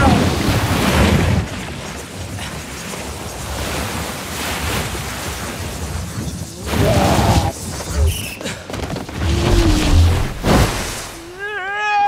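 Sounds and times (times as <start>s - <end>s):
water surging and crashing: 0.0s - 8.0s, 8.7s - 12.0s.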